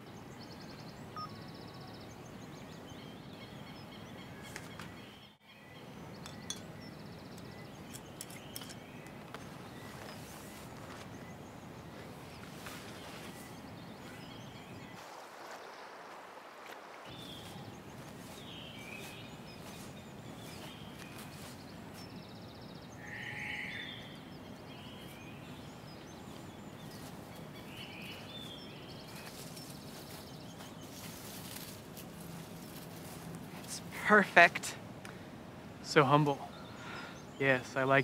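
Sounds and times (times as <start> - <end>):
bird chirps: 0.0 - 15.9, 17.0 - 34.2
steady low hiss: 0.0 - 38.0.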